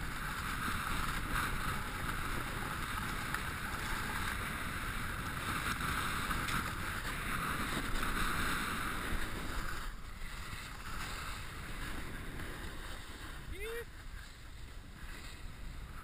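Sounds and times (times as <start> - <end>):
snowboard sliding over snow: 0.0 - 16.0
wind rushing on microphone: 0.0 - 16.0.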